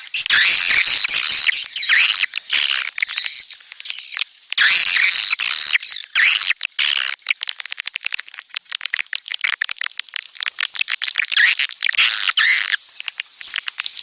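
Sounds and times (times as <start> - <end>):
rapid bird clicks: 0.3 - 14.0.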